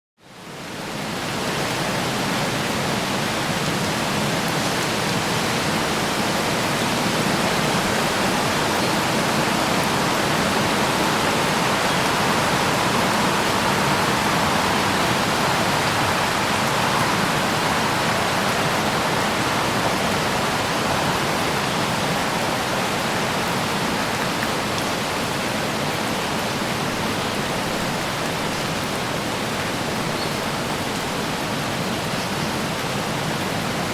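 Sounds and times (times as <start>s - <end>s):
light rain on leaves: 0.2s - 33.9s.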